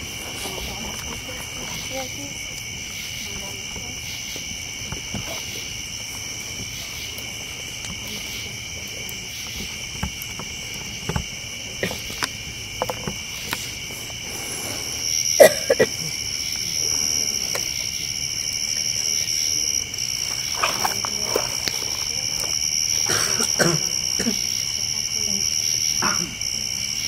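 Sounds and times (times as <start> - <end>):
night insects chirping: 0.0 - 27.0
sharp pops and crackles: 0.2 - 24.4.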